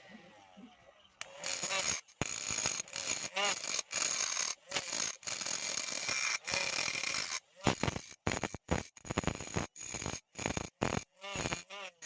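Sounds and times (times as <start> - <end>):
grinding scraping noise: 0.0 - 12.0
angle grinder whining: 1.2 - 12.0.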